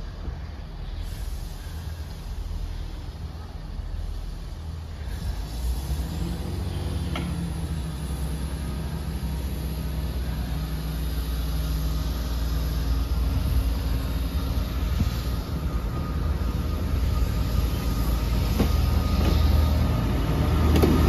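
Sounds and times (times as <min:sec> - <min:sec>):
train diesel engines droning: 0:00.0 - 0:21.0.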